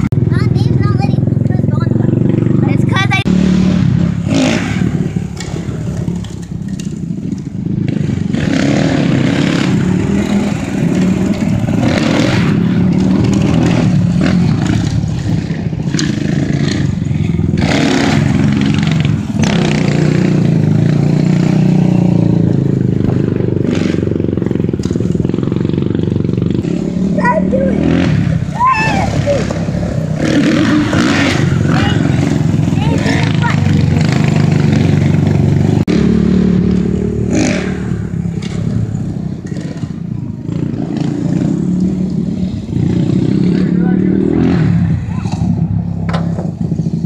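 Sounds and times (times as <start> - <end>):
small off-road engines revving: 0.0 - 47.0.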